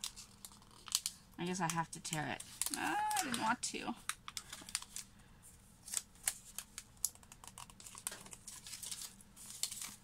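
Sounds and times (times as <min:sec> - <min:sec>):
plastic wrap crinkling: 0:00.0 - 0:05.2, 0:05.8 - 0:10.0.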